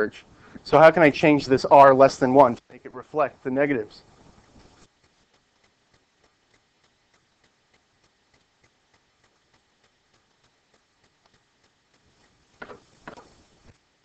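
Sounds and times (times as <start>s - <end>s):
faint regular ticking: 0.0s - 14.0s.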